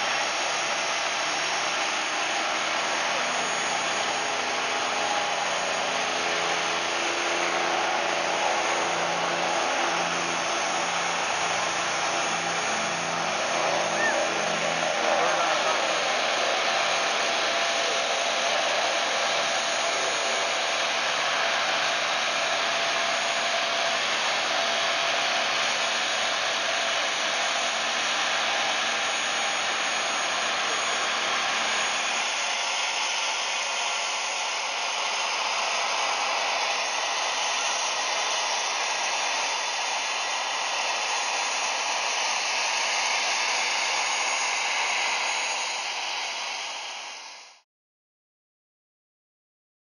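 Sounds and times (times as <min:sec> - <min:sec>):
jet turbine rush and whine: 0:00.0 - 0:47.6.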